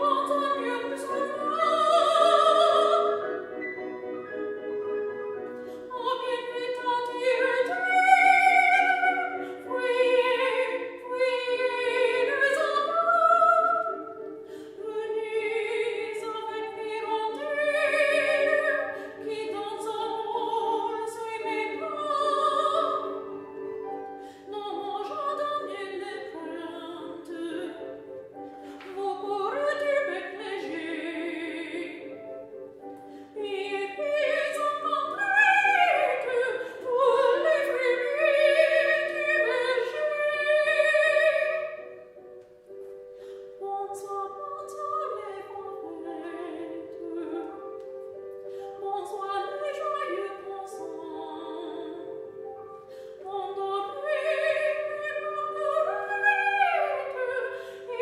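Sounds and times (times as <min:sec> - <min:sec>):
woman singing operatically: 0:00.0 - 0:03.5, 0:05.8 - 0:23.5, 0:24.4 - 0:28.0, 0:28.8 - 0:32.1, 0:33.3 - 0:41.8, 0:43.6 - 0:47.8, 0:48.6 - 0:52.5, 0:53.1 - 0:58.0
piano accompaniment: 0:00.0 - 0:58.0.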